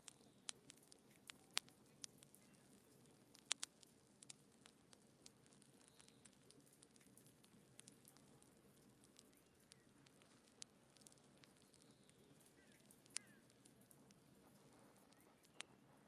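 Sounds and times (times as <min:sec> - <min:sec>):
faint low hiss: 0:00.0 - 0:16.0
wood fire crackling and popping: 0:00.0 - 0:16.0.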